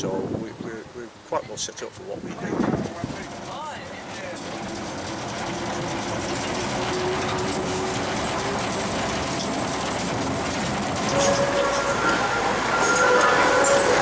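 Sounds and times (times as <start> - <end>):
diesel locomotive engine: 0.0 - 14.0
wheels on rails: 1.7 - 14.0.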